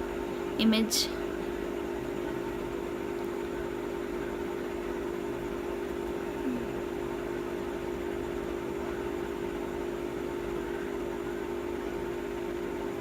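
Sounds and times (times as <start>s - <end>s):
aquarium pump humming: 0.0s - 13.0s.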